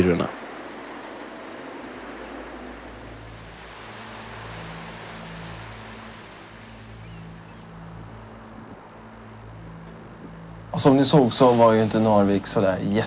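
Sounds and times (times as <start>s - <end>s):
faint low stepped tones: 0.0s - 13.0s
rushing town ambience: 0.0s - 13.0s.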